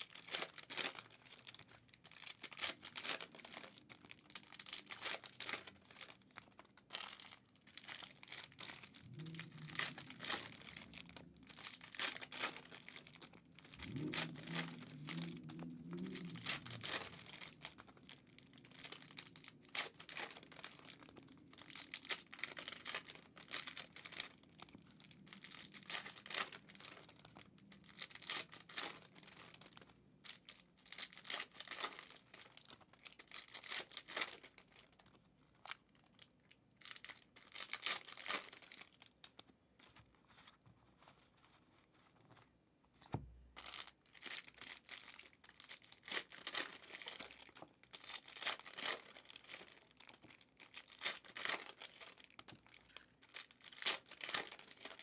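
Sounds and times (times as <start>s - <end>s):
packaging torn and crinkled: 0.0s - 39.5s, 43.6s - 55.0s.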